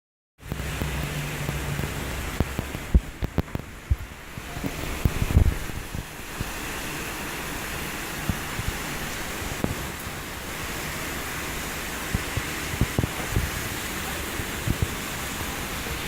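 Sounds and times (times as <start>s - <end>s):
heavy rain hissing: 0.4s - 16.0s.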